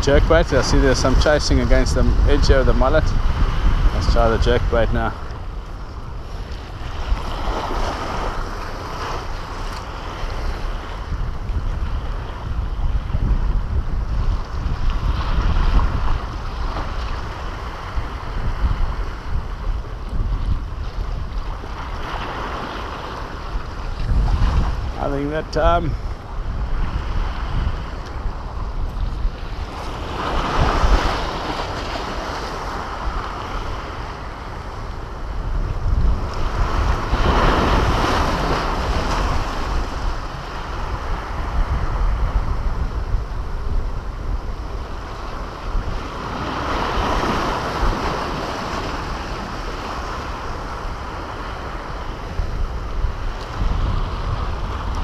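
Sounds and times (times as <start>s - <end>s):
sea surf washing against breakwater: 0.0s - 55.0s
wind rumble on microphone: 0.0s - 55.0s.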